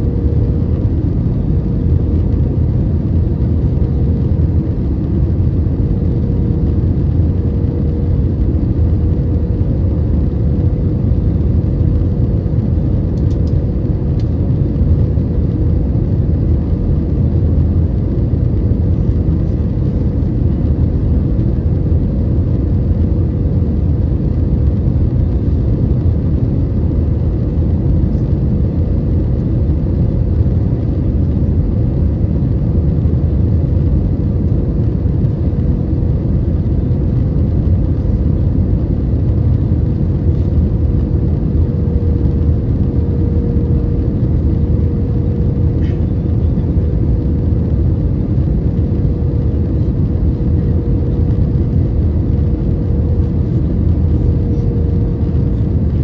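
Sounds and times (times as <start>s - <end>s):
jet engines and rushing airflow: 0.0s - 56.0s
steady hum tone: 0.0s - 56.0s.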